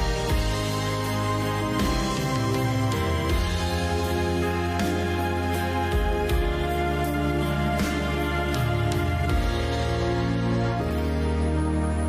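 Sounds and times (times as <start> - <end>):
slow instrumental chords: 0.0 - 12.0.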